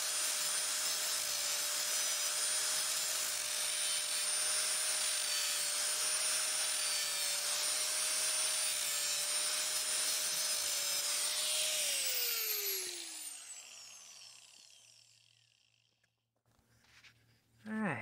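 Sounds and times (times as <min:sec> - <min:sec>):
angle grinder grinding metal: 0:00.0 - 0:15.8.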